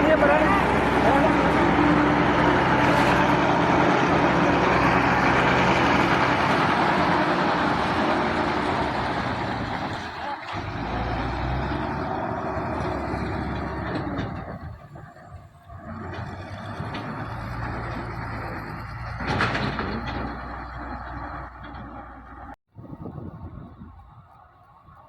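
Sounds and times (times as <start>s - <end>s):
combine harvester running: 0.0s - 22.6s.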